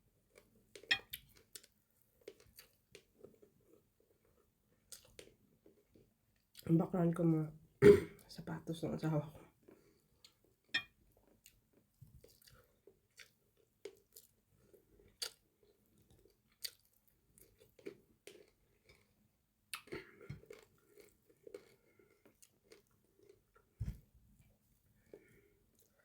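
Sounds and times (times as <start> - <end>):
person chewing food: 0.2 - 6.6, 9.6 - 26.0.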